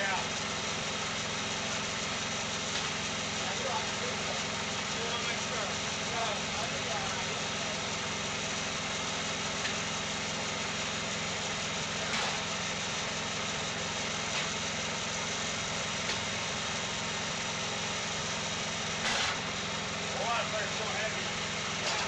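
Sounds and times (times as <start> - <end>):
sawmill engine drone: 0.0 - 22.0.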